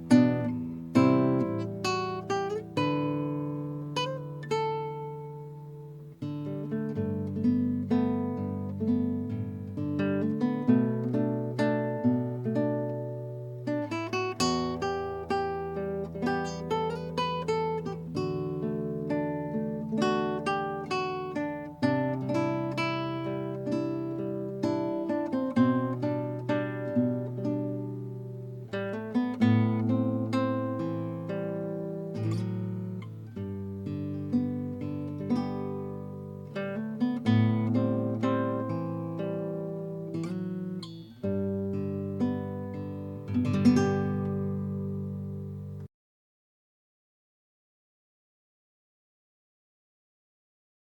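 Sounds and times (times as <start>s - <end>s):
fingerpicked classical guitar: 0.0s - 45.9s.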